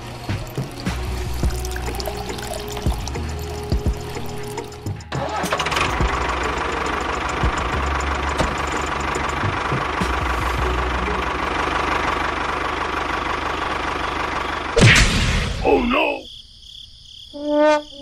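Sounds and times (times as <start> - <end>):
tractor engine starting: 0.0 - 15.6
tractor engine running: 0.0 - 16.2.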